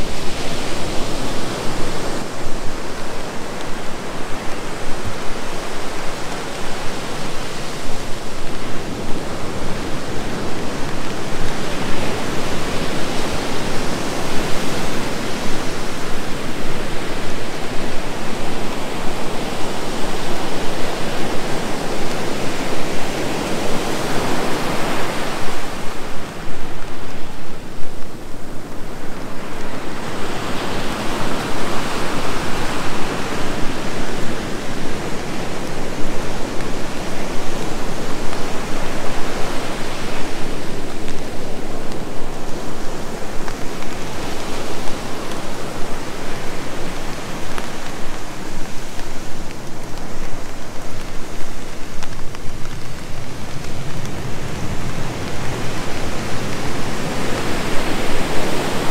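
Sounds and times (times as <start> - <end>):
ocean surf breaking on beach: 0.0 - 58.9.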